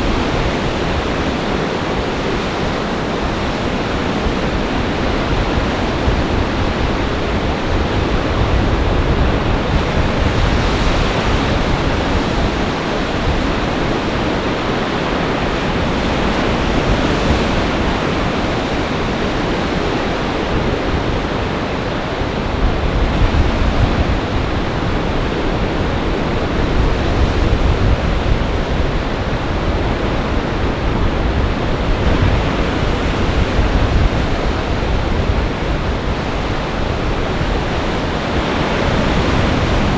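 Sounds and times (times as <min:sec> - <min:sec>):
waves breaking: 0:00.0 - 0:39.9
wind buffeting microphone: 0:00.0 - 0:39.9.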